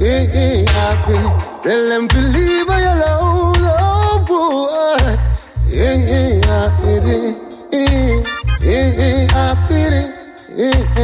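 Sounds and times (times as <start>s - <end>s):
reggae song with vocals: 0.0s - 11.0s.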